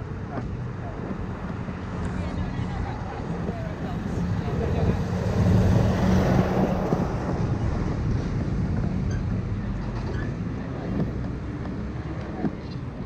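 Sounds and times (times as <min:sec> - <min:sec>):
street traffic: 0:00.0 - 0:13.0
vehicle engine rumbling: 0:00.0 - 0:13.0
wind noise on microphone: 0:00.0 - 0:13.0.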